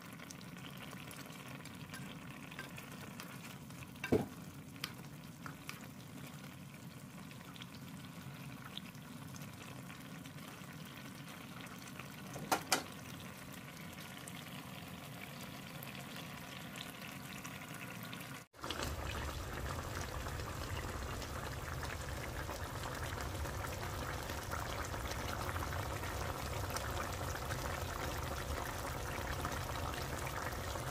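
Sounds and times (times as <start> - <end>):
sauce bubbling and sizzling: 0.0 - 30.9.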